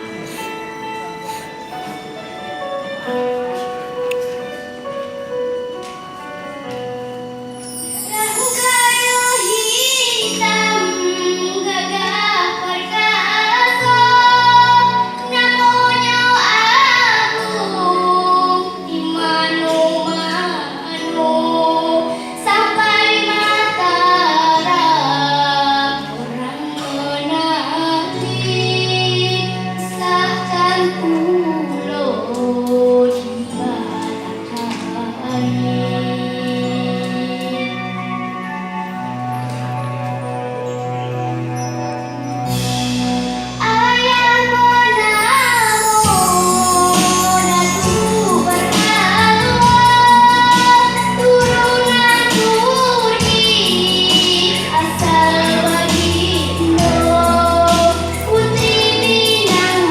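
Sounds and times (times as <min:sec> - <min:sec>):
instrumental accompaniment: 0:00.0 - 0:59.9
girl singing slow melody: 0:07.6 - 0:39.7, 0:43.6 - 0:59.9.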